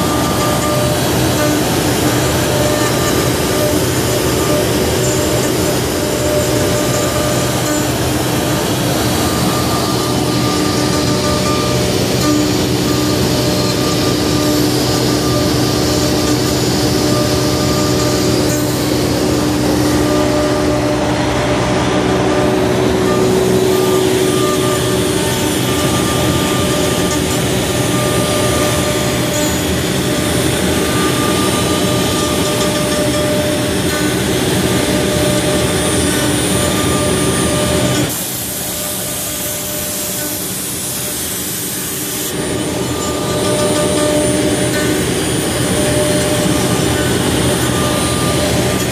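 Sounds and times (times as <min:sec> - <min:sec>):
router spindle whining: 0:00.0 - 0:48.9.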